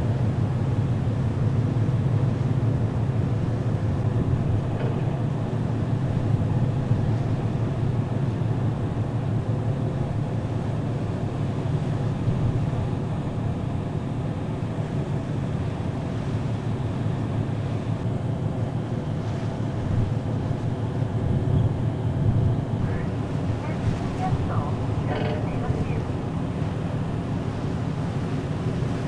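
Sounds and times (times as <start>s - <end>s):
ferry engines droning: 0.0s - 29.0s.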